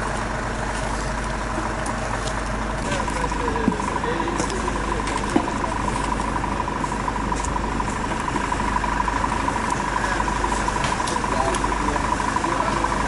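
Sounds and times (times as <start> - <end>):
constant high whine: 0.0 - 13.0
vehicle engine idling: 0.0 - 13.0.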